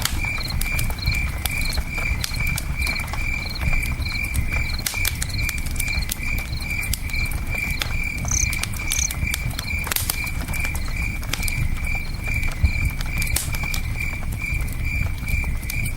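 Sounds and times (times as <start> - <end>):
campfire crackling and popping: 0.0 - 15.9
crickets chirping: 0.0 - 15.9.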